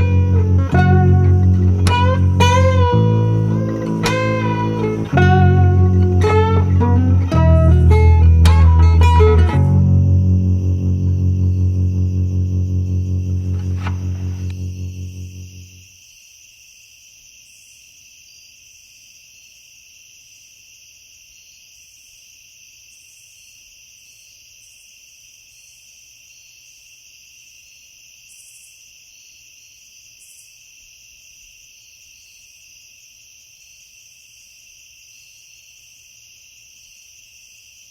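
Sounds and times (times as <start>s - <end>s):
insects trilling: 0.0s - 37.9s.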